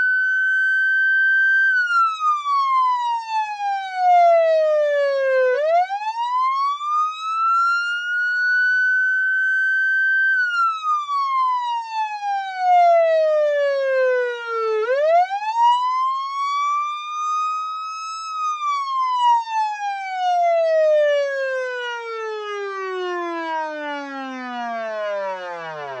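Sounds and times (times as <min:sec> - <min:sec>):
police siren wailing: 0:00.0 - 0:26.0.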